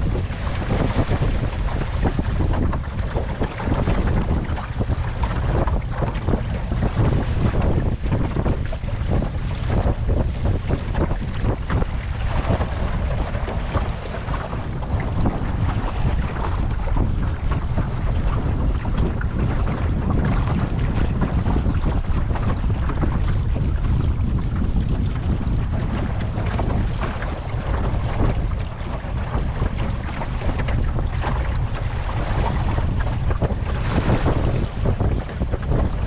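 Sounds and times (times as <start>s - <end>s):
water splashing along hull: 0.0s - 36.0s
wind buffeting microphone: 0.0s - 36.0s.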